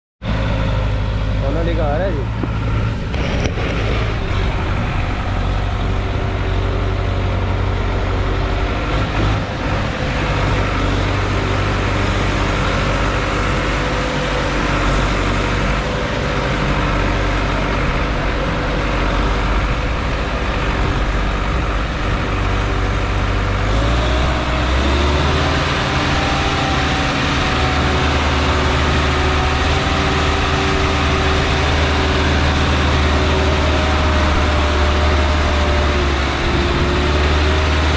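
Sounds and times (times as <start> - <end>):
tractor diesel engine running: 0.2 - 37.9.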